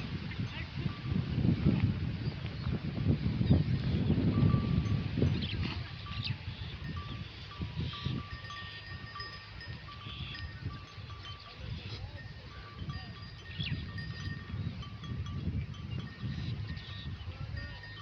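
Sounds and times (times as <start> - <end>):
sheep bells clinking: 0.0 - 1.4, 2.0 - 18.0.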